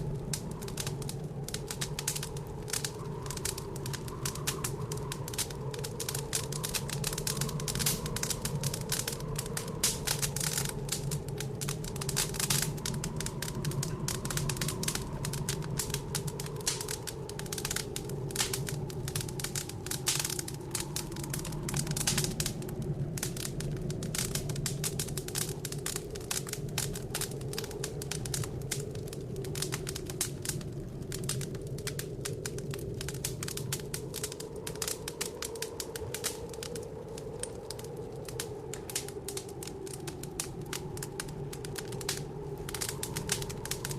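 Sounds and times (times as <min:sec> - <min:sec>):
low blizzard wind: 0:00.0 - 0:43.9
wood fire crackling: 0:00.0 - 0:43.9.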